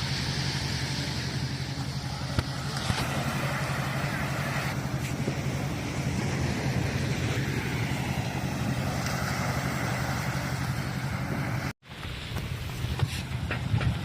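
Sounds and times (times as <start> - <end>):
engine running: 0.0 - 14.0
rushing wind-like noise: 0.0 - 14.0.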